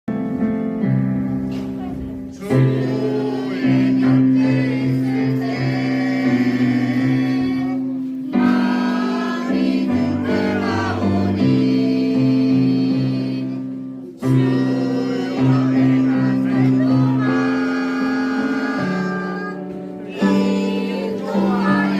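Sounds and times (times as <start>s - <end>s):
instrumental accompaniment: 0.1s - 21.9s
church choir singing a hymn: 2.3s - 21.9s.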